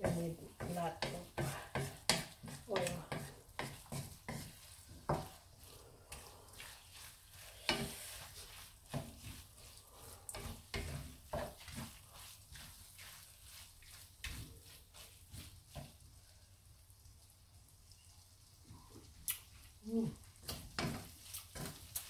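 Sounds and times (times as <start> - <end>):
wooden spatula scraping a pan: 0.0 - 16.2, 20.0 - 22.0
paste sizzling in oil: 0.0 - 22.0.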